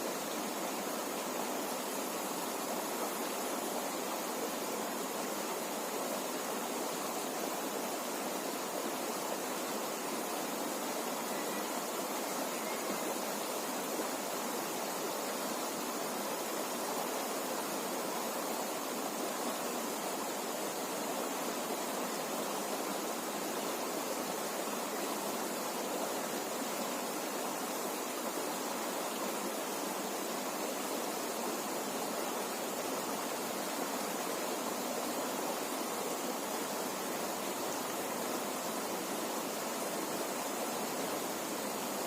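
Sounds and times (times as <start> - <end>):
river water flowing: 0.0 - 42.0.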